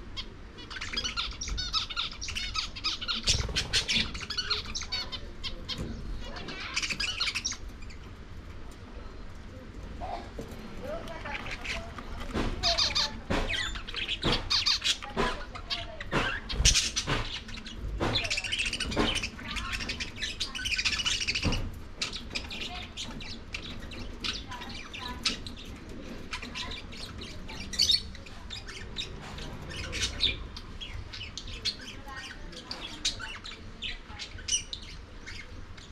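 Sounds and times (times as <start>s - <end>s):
budgerigars chirping and squawking: 0.0s - 35.9s.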